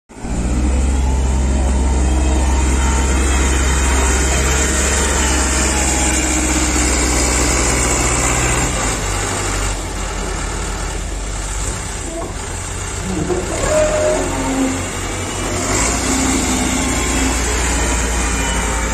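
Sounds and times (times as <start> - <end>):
wheel loader diesel engine running: 0.1 - 18.9.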